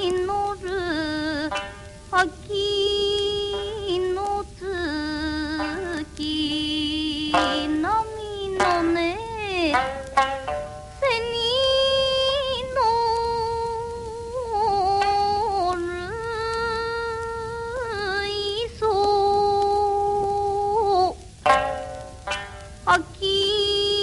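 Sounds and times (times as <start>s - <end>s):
woman singing folk song on record: 0.0s - 24.0s.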